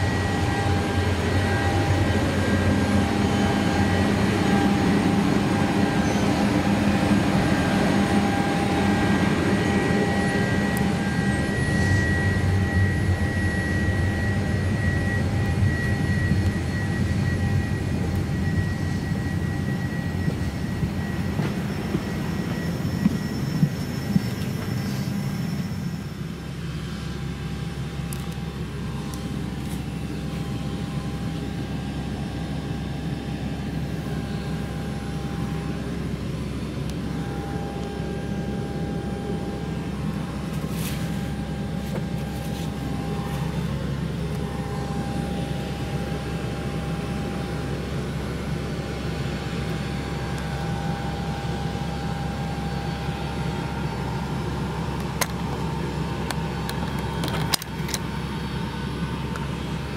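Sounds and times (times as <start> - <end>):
cabin ventilation hum: 0.0 - 59.9.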